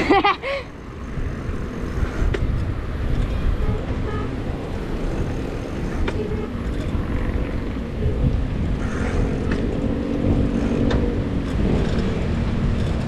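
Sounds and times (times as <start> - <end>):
faint vehicle hum: 0.0 - 13.0
road rumble: 0.0 - 13.0
wind buffeting microphone: 0.0 - 13.0.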